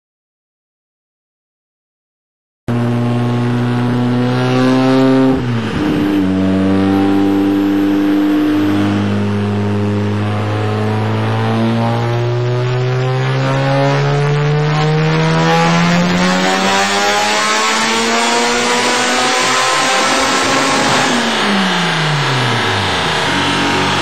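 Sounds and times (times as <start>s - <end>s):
rotary engine revving: 2.7s - 24.0s.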